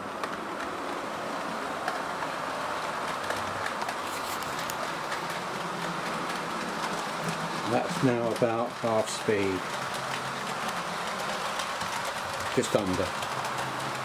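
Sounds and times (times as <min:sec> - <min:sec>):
model train motor running: 0:00.0 - 0:14.0
wheels clicking on track: 0:00.0 - 0:14.0.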